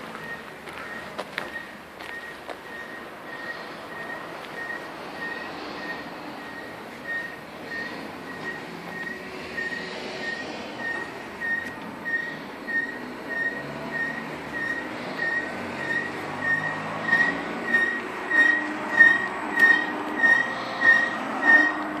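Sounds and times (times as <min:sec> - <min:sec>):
high squeak repeating: 0:00.2 - 0:22.0.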